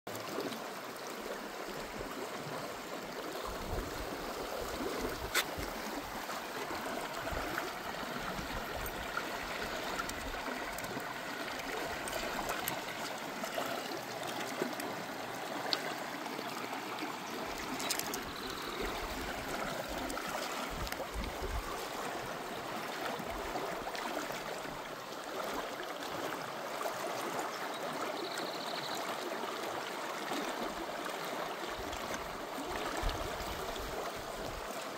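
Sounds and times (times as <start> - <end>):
river water rushing and gurgling: 0.1 - 28.2, 29.0 - 34.9.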